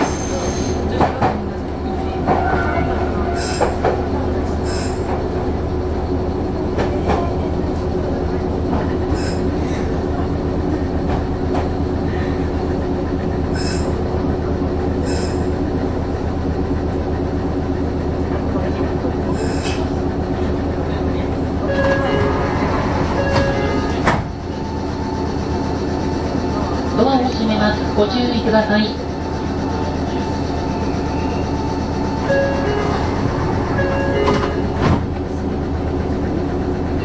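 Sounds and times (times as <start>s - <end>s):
train rumble and hum: 0.0s - 37.0s.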